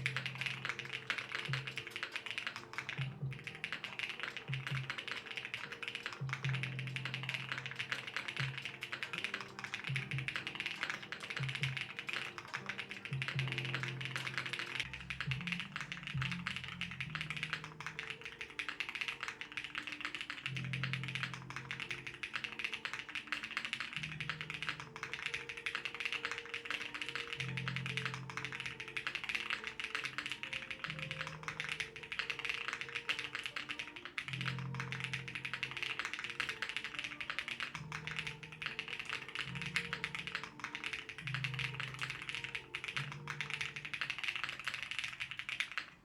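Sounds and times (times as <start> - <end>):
background music with low notes: 0.0 - 46.0
mechanical keyboard typing: 0.0 - 46.0.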